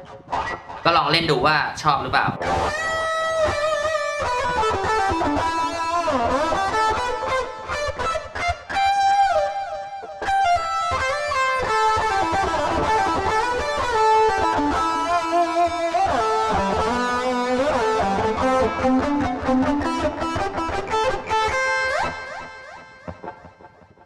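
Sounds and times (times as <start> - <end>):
overdriven electric guitar with delay: 0.0 - 24.0.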